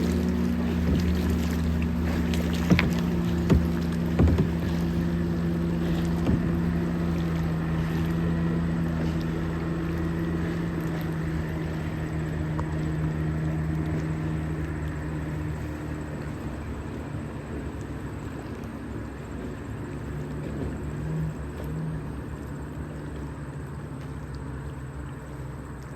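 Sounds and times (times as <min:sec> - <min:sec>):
motorboat engine running: 0:00.0 - 0:25.9.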